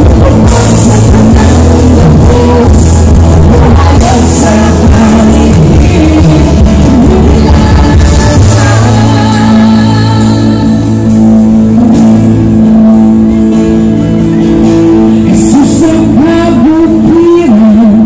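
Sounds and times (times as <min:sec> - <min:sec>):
worship band playing through speakers: 0:00.0 - 0:18.0.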